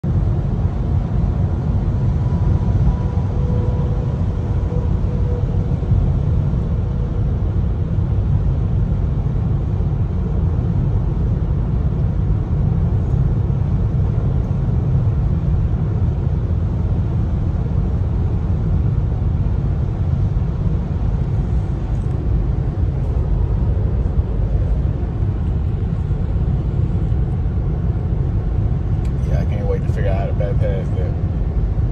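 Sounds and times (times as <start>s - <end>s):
road and tyre rumble in car: 0.0s - 31.9s.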